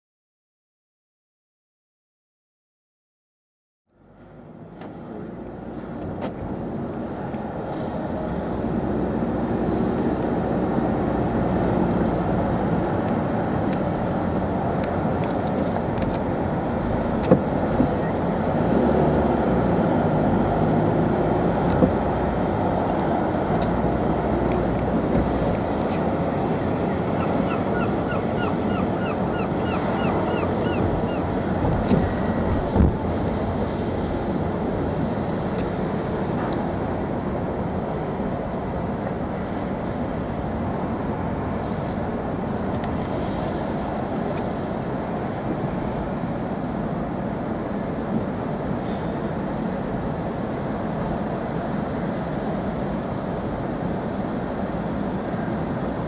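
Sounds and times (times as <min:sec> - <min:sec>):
ferry engine rumble: 0:03.9 - 0:56.0.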